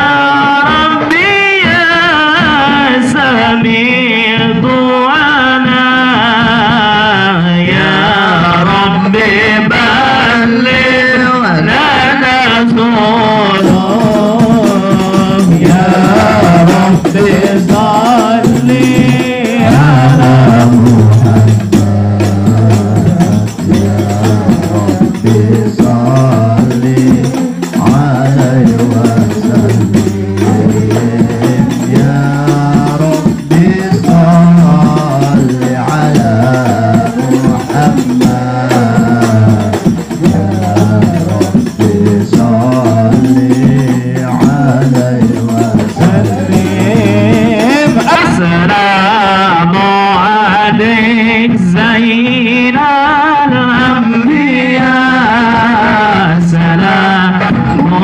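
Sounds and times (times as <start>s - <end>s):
frame drums and goblet drum: 0.0s - 58.0s
men singing: 0.0s - 58.0s.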